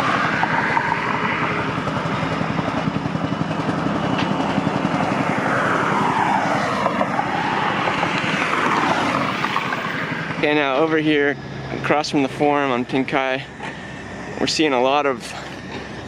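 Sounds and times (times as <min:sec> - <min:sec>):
aircraft engine rumble: 0:00.0 - 0:16.0
engine whine: 0:00.0 - 0:16.0.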